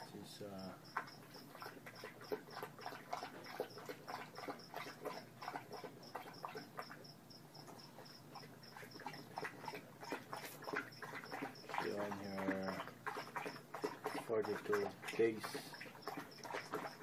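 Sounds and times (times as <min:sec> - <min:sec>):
cricket chirping: 0:00.0 - 0:17.0
dog chewing and lapping: 0:00.0 - 0:17.0.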